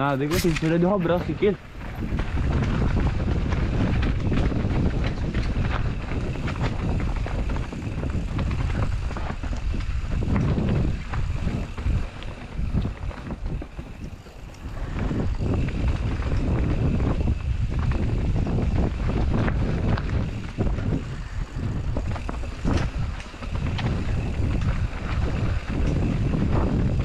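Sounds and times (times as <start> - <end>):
bike rattling clicks: 0.0 - 27.0
bike tyres rumbling over dirt: 0.0 - 27.0
wind buffeting microphone: 0.0 - 27.0.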